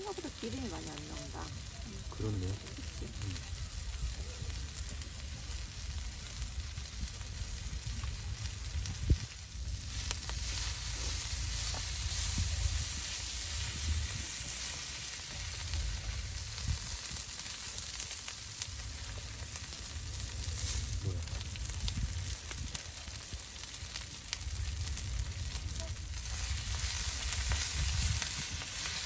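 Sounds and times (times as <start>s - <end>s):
meat sizzling over fire: 0.0s - 29.0s.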